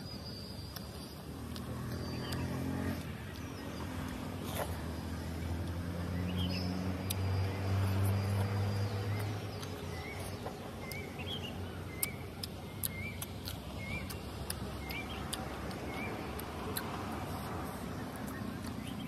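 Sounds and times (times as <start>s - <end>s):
bird chirping: 0.0s - 19.0s
chewing with mouth clicks: 0.6s - 19.0s.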